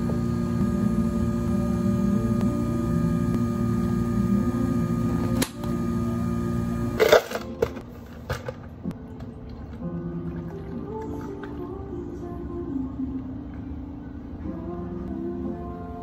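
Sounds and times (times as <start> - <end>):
electrical equipment hum: 0.0 - 16.0.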